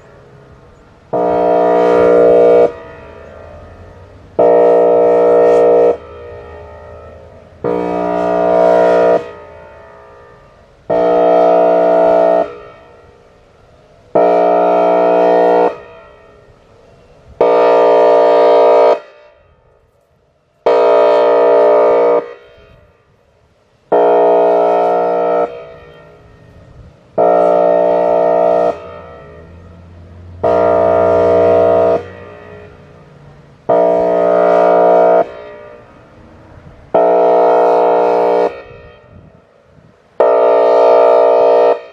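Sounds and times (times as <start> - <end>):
warning siren horn blasts: 0.0 - 41.9.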